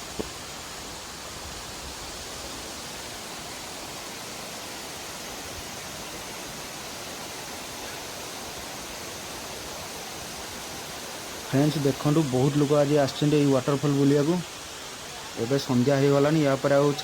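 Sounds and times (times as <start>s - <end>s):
waterfall crashing down: 0.0s - 17.0s.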